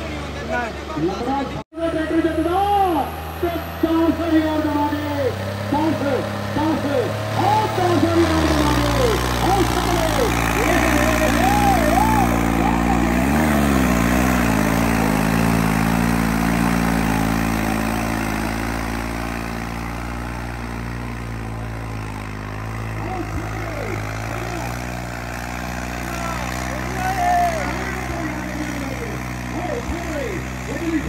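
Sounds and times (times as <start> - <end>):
diesel tractor engine running: 0.0 - 31.0.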